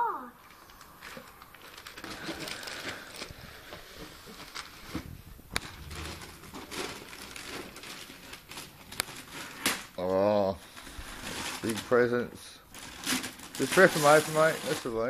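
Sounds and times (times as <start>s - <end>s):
wrapping paper crinkling and tearing: 0.4s - 5.0s, 5.6s - 15.0s.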